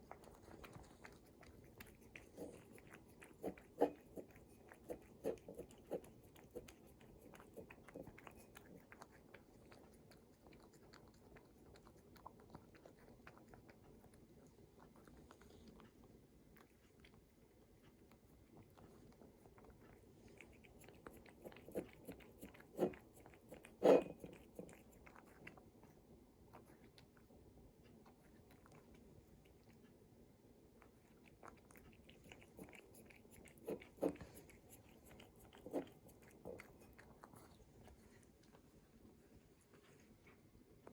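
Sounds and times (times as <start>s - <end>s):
crunching and chewing: 0.0s - 40.9s.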